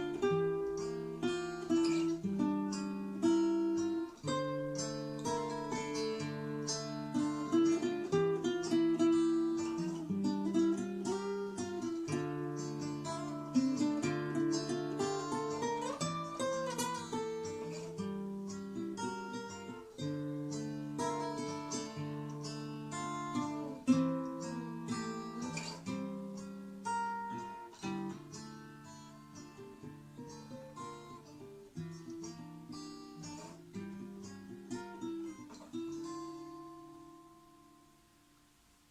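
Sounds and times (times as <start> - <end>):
acoustic guitar plucked melody: 0.0 - 38.9.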